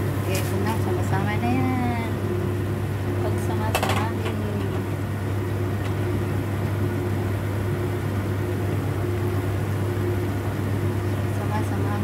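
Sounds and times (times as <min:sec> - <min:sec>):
appliance electric hum: 0:00.0 - 0:12.0.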